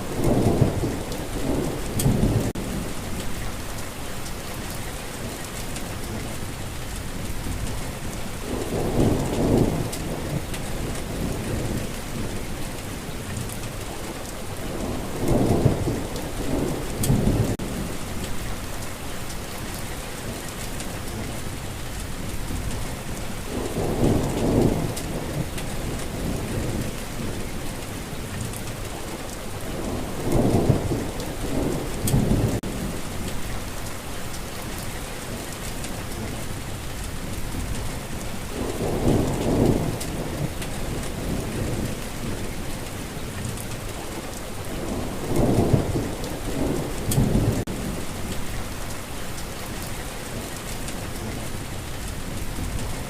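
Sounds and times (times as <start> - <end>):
heavy rain hissing: 0.0 - 53.0
rolling thunder rumbles: 0.0 - 53.0.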